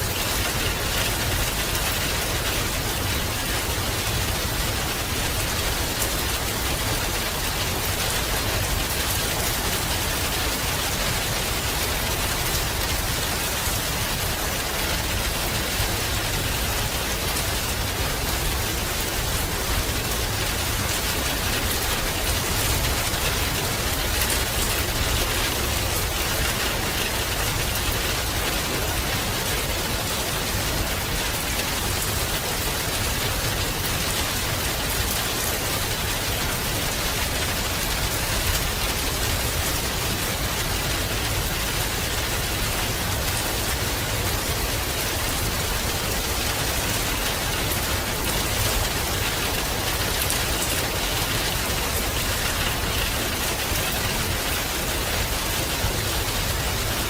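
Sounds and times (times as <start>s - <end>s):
rain rushing noise: 0.0s - 57.0s
raindrops pattering: 0.0s - 57.0s.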